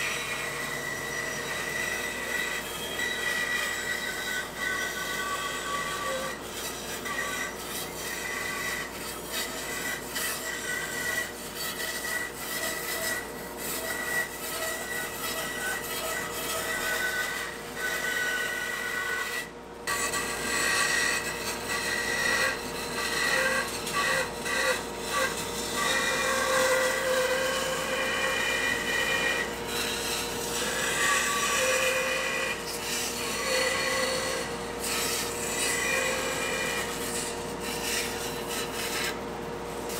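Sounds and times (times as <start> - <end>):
band saw whine: 0.0 - 39.9
saw blade rasping through wood: 0.0 - 39.9.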